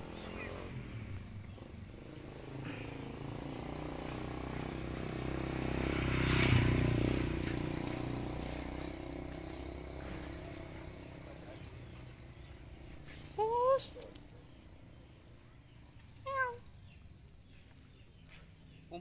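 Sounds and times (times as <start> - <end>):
vehicle engine passing by: 0.0 - 19.0.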